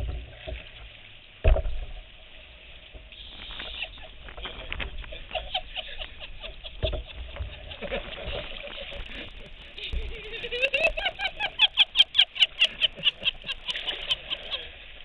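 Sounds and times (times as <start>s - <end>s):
reeds rustling against hull: 0.0s - 15.0s
water patter: 0.0s - 15.0s.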